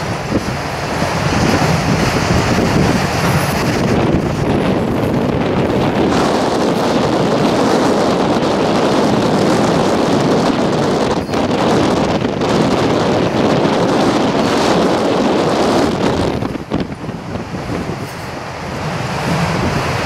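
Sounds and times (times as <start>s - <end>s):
freight train rolling past: 0.0s - 20.0s
wind buffeting microphone: 0.0s - 20.0s.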